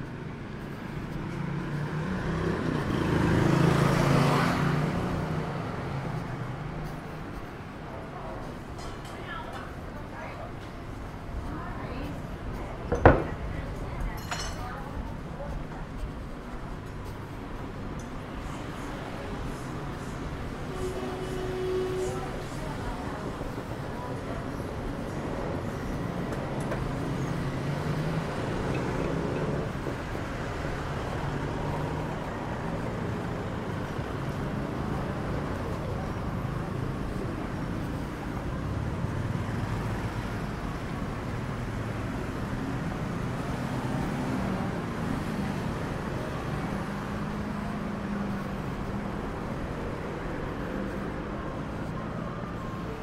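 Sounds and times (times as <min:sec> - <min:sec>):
passing vehicle engines: 0:00.0 - 0:53.0
road noise rumble: 0:00.0 - 0:53.0.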